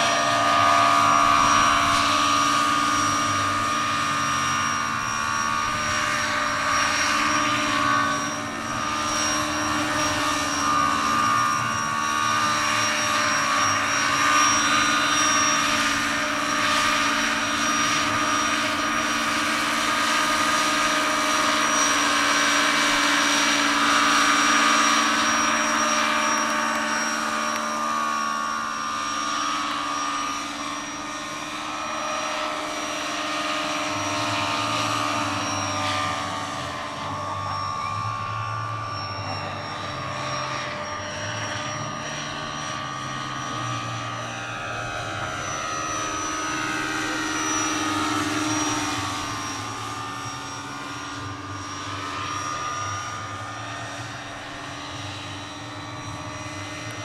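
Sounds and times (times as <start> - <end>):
model helicopter whine and rotor whir: 0.0 - 57.0.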